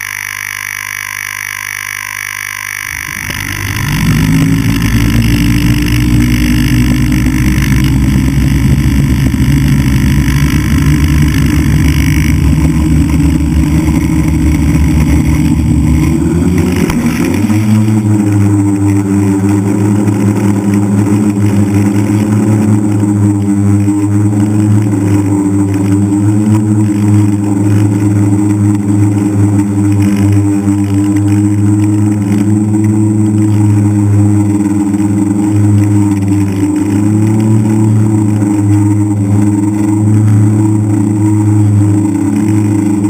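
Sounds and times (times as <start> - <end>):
drone motors and propellers whirring: 0.0 - 43.0.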